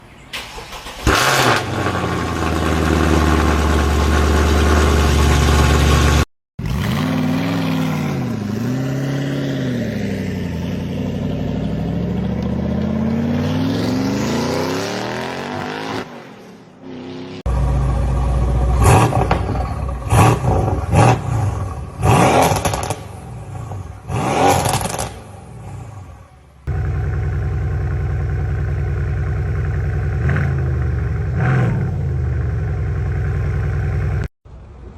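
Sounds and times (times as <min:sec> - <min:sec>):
car exhaust revving and idling: 0:01.0 - 0:15.9, 0:17.4 - 0:34.3.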